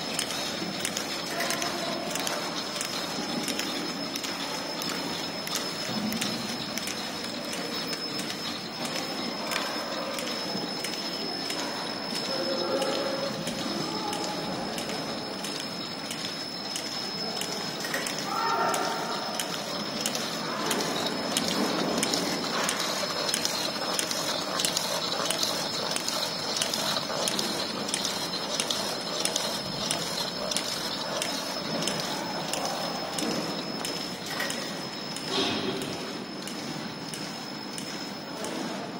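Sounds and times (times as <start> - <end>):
machine belts and rollers clattering: 0.0 - 38.9.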